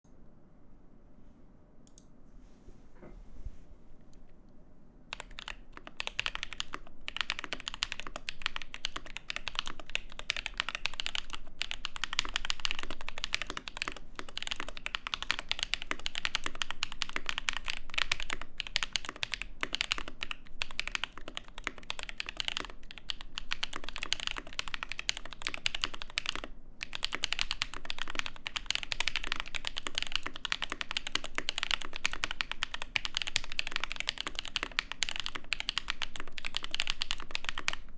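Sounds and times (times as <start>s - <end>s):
muted mechanical keyboard typing: 5.1s - 37.9s.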